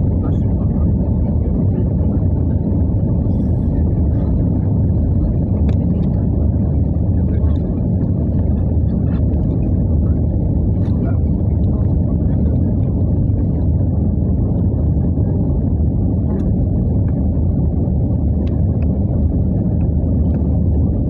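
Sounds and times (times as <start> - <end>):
aircraft cabin engine rumble: 0.0 - 21.0.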